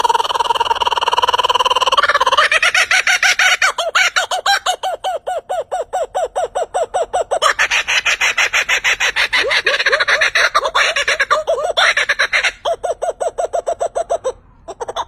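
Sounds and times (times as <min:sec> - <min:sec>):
bird calling harshly: 0:00.0 - 0:15.0.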